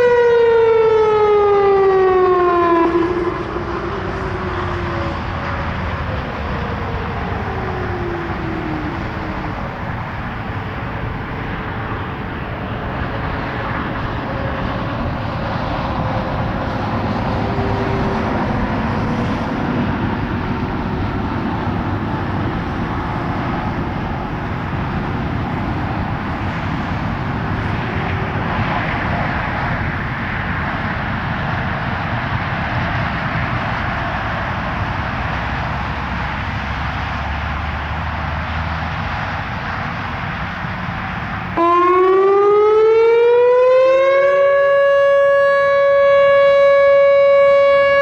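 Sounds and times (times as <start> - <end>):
road traffic hum: 0.0 - 48.0.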